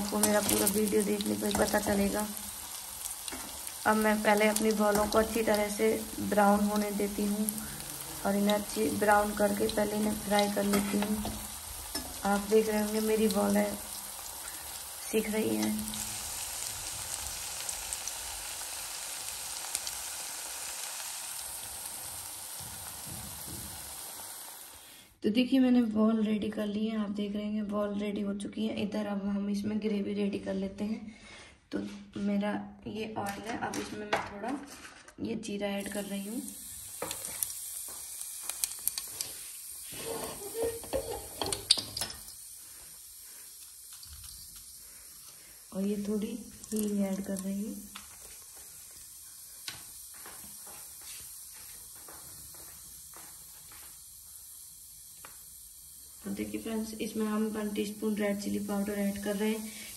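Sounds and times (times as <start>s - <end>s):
food deep-frying in oil: 0.0s - 25.1s, 35.8s - 59.9s.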